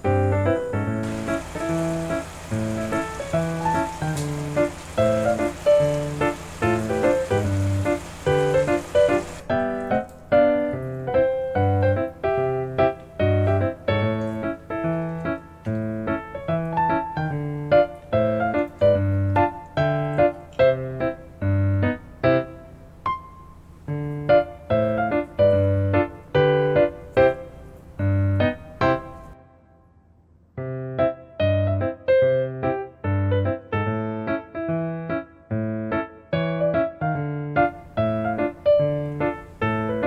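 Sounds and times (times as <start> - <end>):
upbeat piano tune over bass beat: 0.0 - 29.4, 30.6 - 40.0.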